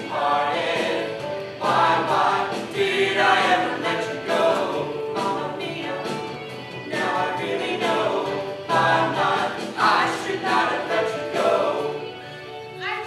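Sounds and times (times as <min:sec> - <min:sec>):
group of voices singing: 0:00.0 - 0:12.3.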